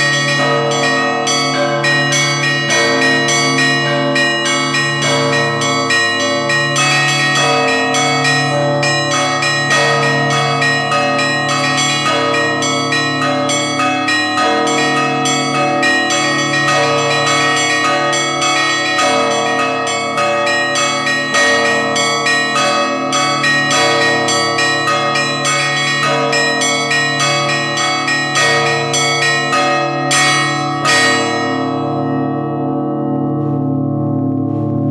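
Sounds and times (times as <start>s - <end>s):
deep large bells: 0.0s - 34.9s.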